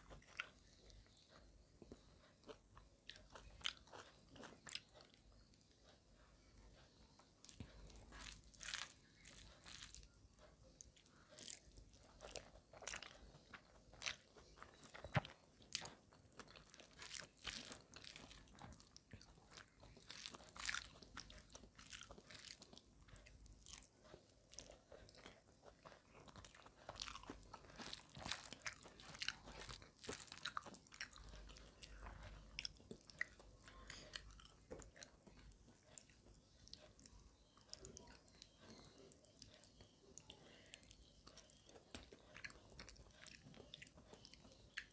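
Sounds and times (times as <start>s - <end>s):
close chewing sounds: 0.0s - 44.9s.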